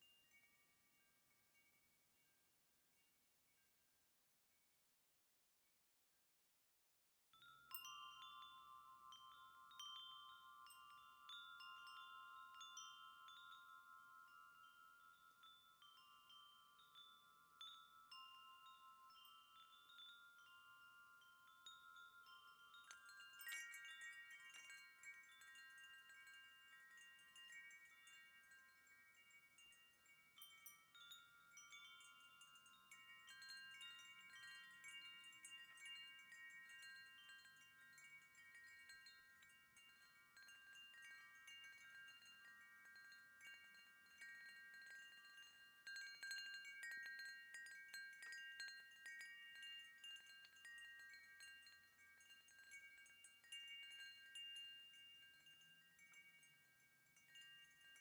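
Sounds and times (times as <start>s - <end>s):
wind chime ringing: 7.4s - 58.0s.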